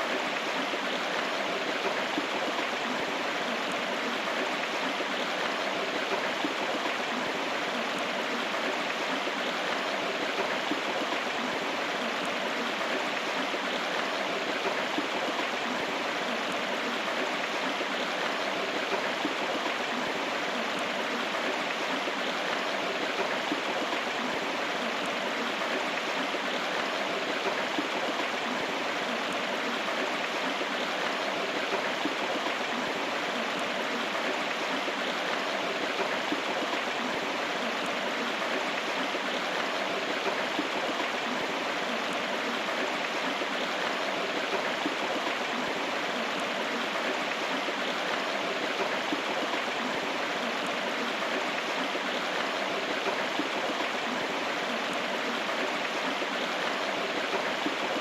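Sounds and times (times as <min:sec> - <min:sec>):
rushing water of a stream: 0:00.0 - 0:58.0.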